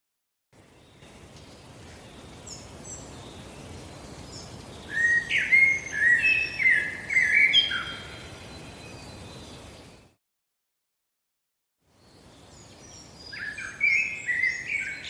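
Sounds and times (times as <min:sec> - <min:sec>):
small birds chirping: 0:00.6 - 0:10.2, 0:11.8 - 0:15.0
steady background hiss: 0:00.6 - 0:10.2, 0:11.8 - 0:15.0.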